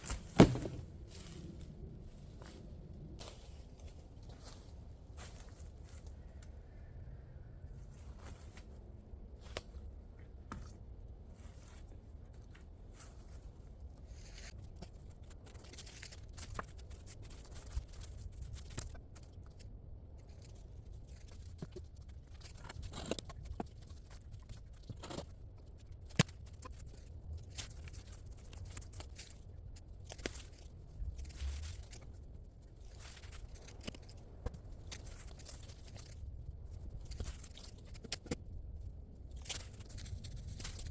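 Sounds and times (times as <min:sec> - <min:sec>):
rustling and scraping of handling: 0:00.0 - 0:06.7, 0:07.8 - 0:40.9
steady low rumble: 0:00.0 - 0:40.9.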